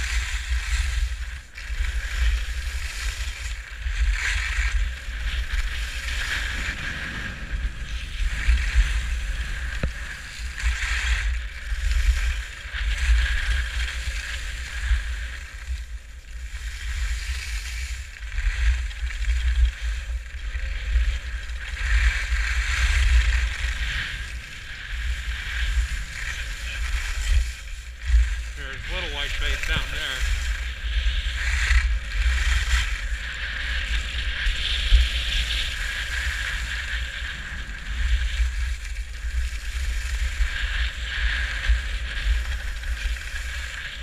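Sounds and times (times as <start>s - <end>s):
wind buffeting microphone: 0.0s - 17.1s, 18.7s - 44.0s
skis scraping on packed snow: 0.0s - 44.0s.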